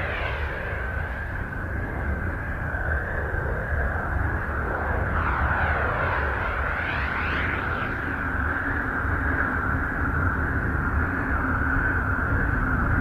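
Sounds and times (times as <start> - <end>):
steady high whine: 0.0 - 13.0.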